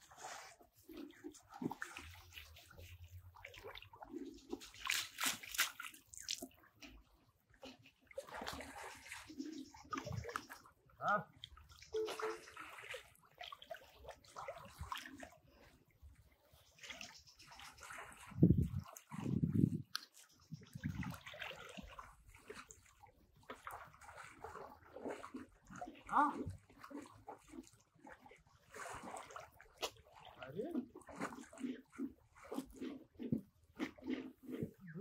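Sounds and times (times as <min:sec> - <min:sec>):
water sloshing and splashing: 0:00.0 - 0:35.0.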